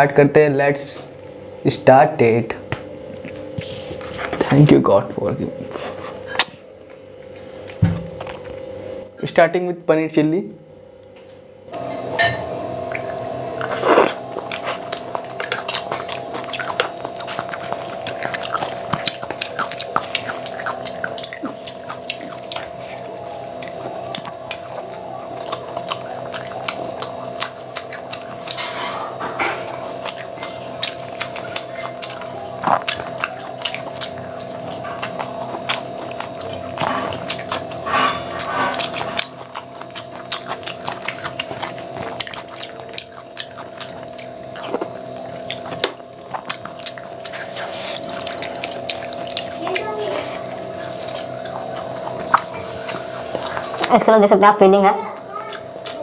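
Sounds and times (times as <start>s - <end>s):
steady hum: 0.0s - 56.0s
close chewing and mouth sounds: 3.1s - 4.8s, 5.6s - 9.1s, 12.9s - 56.0s.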